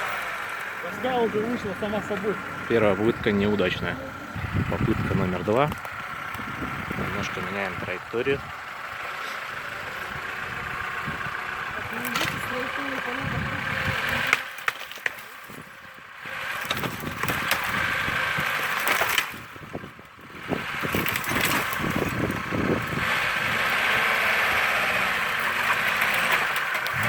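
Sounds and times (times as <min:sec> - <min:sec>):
car engine under load: 0:00.0 - 0:27.0
ice crunching under wheels: 0:00.0 - 0:27.0.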